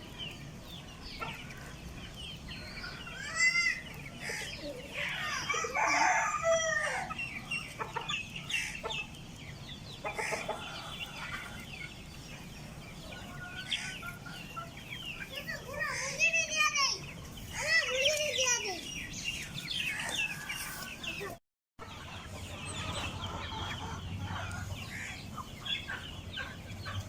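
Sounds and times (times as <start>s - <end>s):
chicks peeping: 0.0s - 27.0s
hen clucking: 0.0s - 27.0s.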